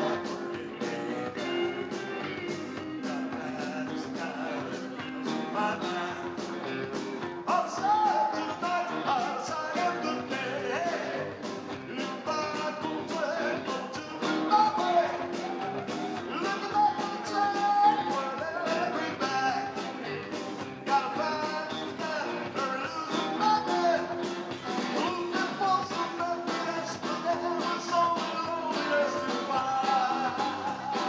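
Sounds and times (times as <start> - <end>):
live rock band playing: 0.0 - 31.0
man singing: 0.0 - 31.0.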